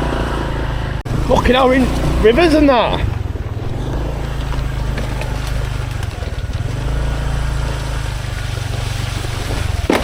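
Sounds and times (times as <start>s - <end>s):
motorcycle engine running: 0.0s - 10.0s
riding noise: 0.0s - 10.0s.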